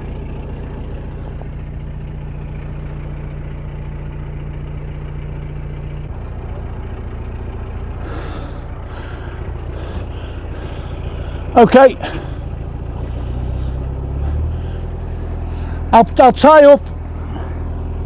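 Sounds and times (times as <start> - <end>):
boat diesel engine humming: 0.0 - 18.0.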